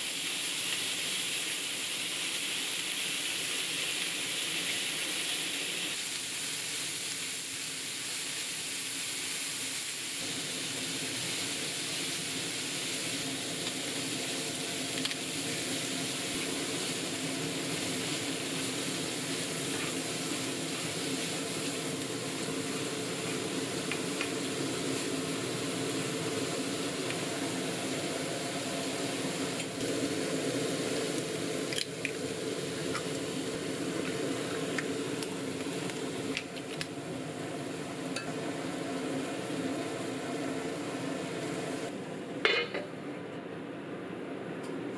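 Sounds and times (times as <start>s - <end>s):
food sizzling in frying pan: 0.0s - 42.8s.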